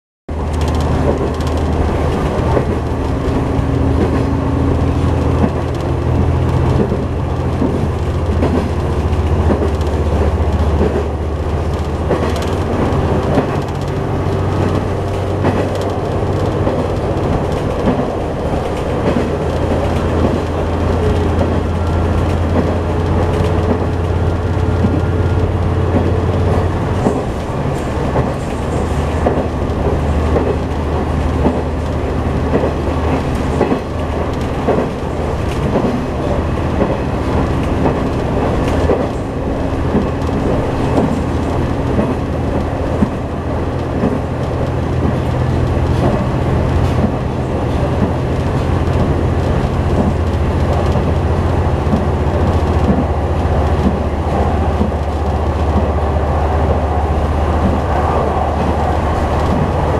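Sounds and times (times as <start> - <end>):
light rail clicks: 0.3 - 59.9
railcar engine drone: 0.3 - 59.9
wheels rumbling on track: 0.3 - 59.9.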